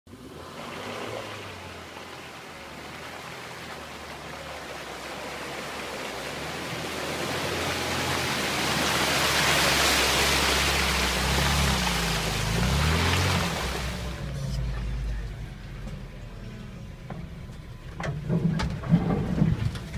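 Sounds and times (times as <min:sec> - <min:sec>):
car engine low note: 0:00.1 - 0:19.9.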